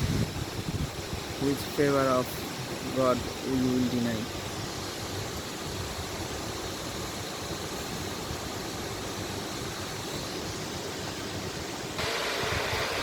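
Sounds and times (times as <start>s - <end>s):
distant waterfall rushing: 0.0s - 13.0s.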